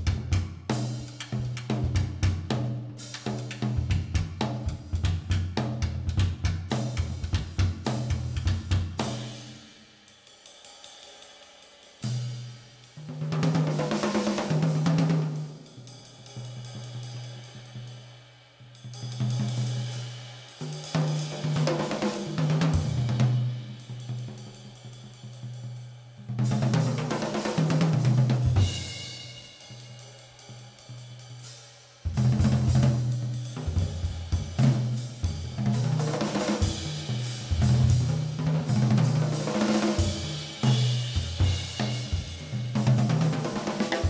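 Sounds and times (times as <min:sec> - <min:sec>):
jazz drum kit: 0:00.0 - 0:10.0, 0:12.0 - 0:17.9, 0:18.8 - 0:44.0.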